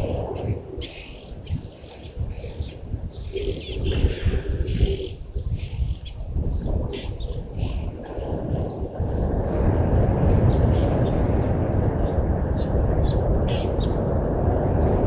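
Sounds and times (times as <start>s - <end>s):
birds chirping: 0.0s - 15.0s
low rumbling noise: 0.0s - 15.0s.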